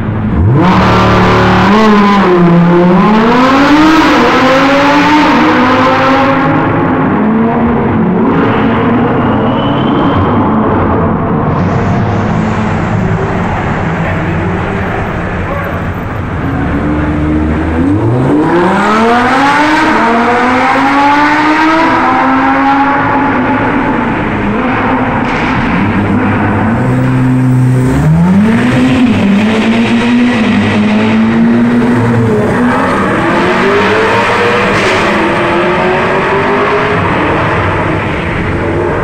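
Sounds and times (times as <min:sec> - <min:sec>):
car engine accelerating hard: 0:00.0 - 0:09.4, 0:10.0 - 0:39.0.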